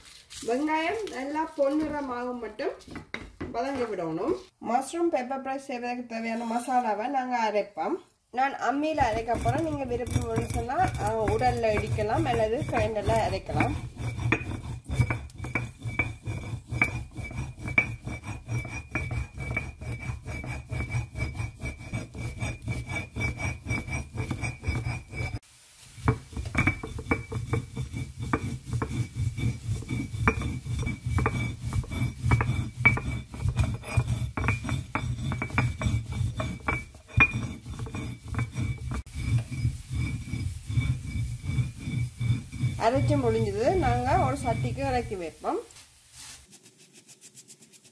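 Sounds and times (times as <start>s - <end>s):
stone roller grinding on stone: 0.4s - 4.5s, 8.8s - 25.4s, 26.0s - 45.7s.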